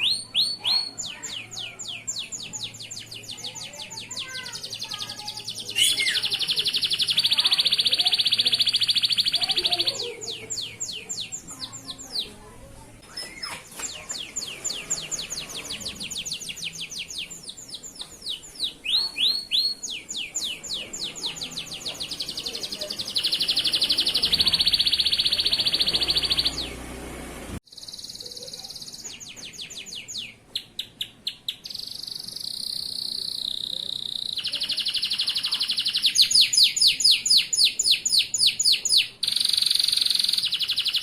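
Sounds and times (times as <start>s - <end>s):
canary singing: 0.0s - 41.0s.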